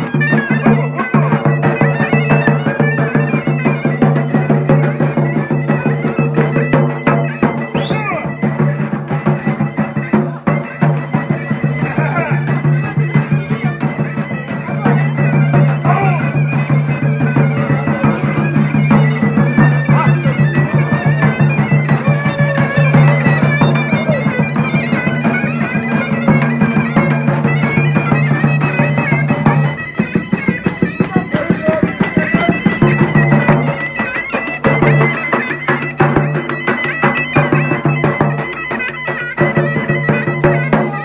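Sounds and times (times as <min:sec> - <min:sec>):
bagpipe low drone: 0:00.0 - 0:41.0
bagpipe playing folk tune: 0:00.0 - 0:41.0.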